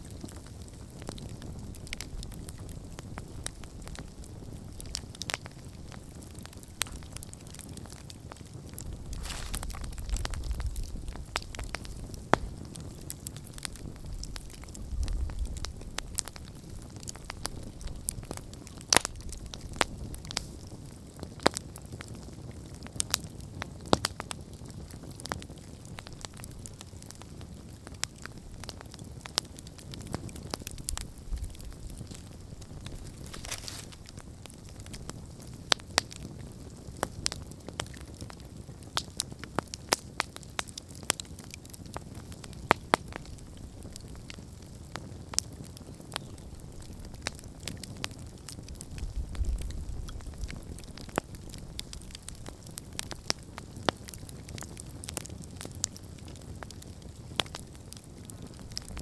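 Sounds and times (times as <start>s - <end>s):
campfire crackles and pops: 0.0s - 59.0s
low rumble of flames: 0.0s - 59.0s.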